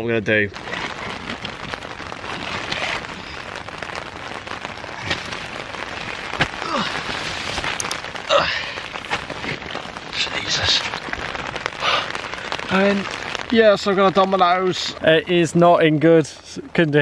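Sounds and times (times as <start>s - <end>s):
rain pattering on tent: 0.0s - 17.0s
tent fabric rustling: 0.5s - 14.9s.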